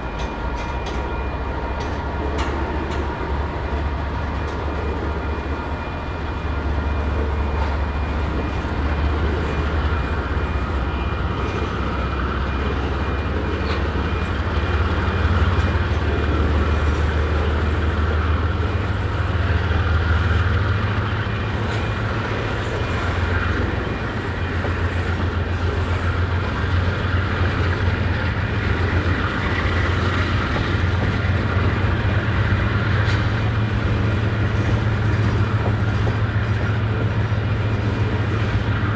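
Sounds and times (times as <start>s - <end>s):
freight train rumbling on rails: 0.0s - 38.9s.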